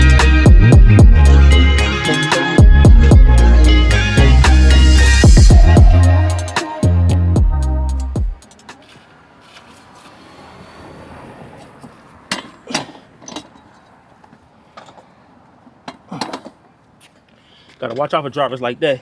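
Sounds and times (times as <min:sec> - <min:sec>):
vehicle road noise: 0:00.0 - 0:18.2.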